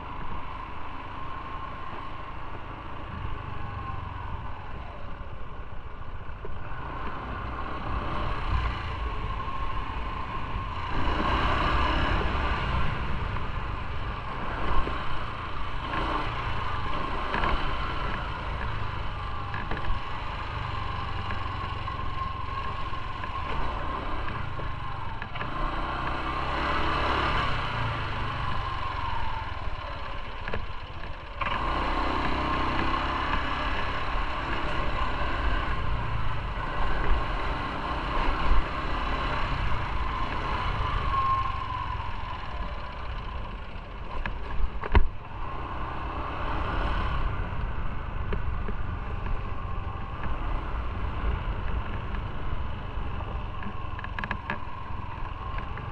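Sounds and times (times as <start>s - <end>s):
motorcycle engine rumble: 0.0s - 55.9s
road noise: 0.0s - 55.9s.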